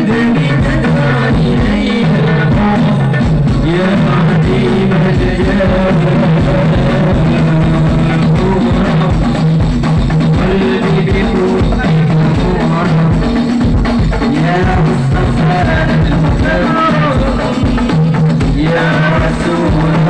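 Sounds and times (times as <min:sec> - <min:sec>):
frame drums and bass drum beat: 0:00.0 - 0:20.0
voices singing devotional song: 0:00.0 - 0:20.0.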